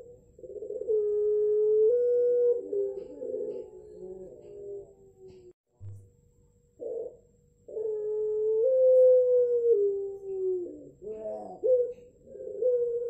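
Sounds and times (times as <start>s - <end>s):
dove cooing: 0.0s - 5.6s, 6.8s - 13.0s.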